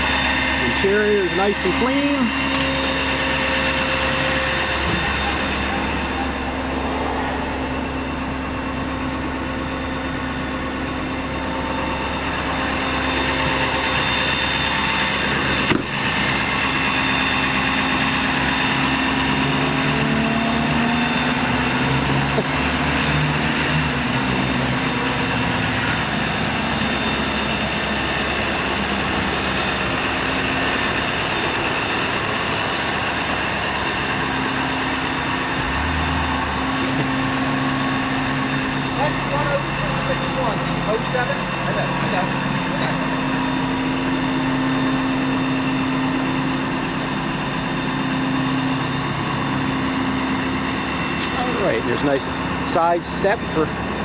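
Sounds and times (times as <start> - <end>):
diesel engine running: 0.0 - 54.0
high whining tones: 0.0 - 54.0.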